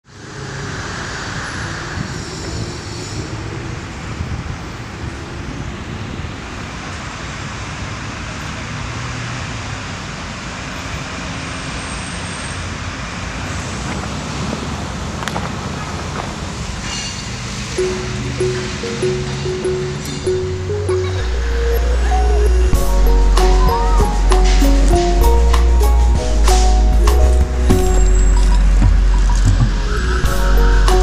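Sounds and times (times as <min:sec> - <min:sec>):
road traffic hum: 0:00.0 - 0:31.0.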